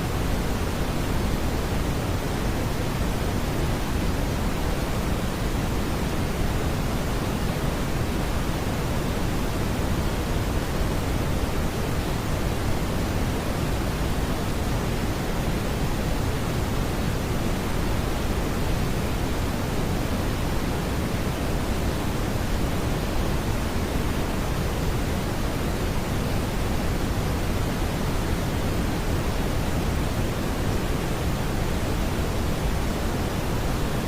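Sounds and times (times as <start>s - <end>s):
brown noise hiss: 0.0s - 34.0s.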